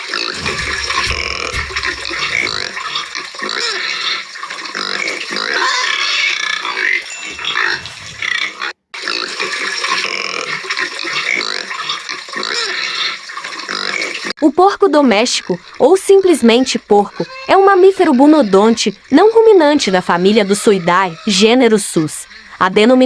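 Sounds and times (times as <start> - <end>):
pig squealing: 0.0 - 14.3, 15.2 - 23.0.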